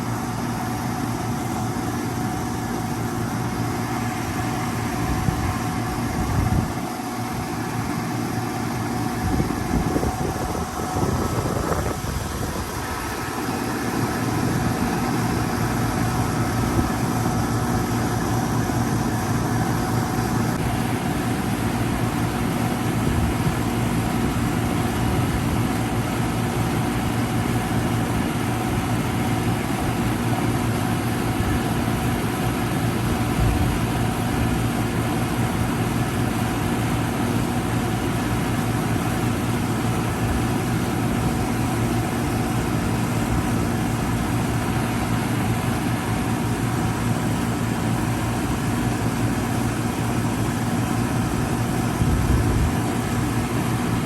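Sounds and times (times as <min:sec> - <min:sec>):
compressor hum: 0:00.0 - 0:54.0
condenser fan rushing: 0:00.0 - 0:54.0.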